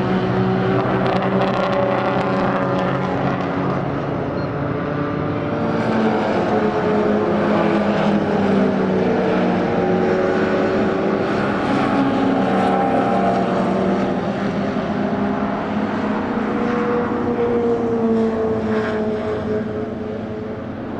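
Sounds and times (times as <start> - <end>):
racing car engines: 0.0 - 20.9.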